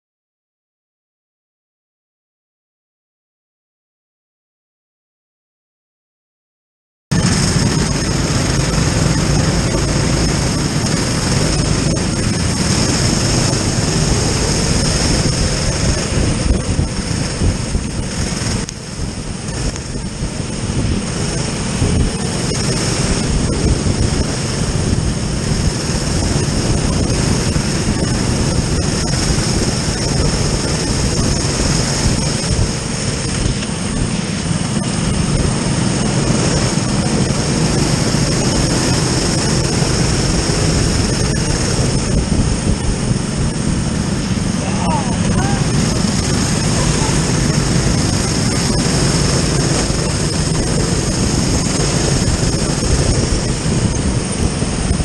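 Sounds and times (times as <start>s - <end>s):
kart engine running hard: 7.1s - 55.0s
steady rush of noise: 7.1s - 55.0s.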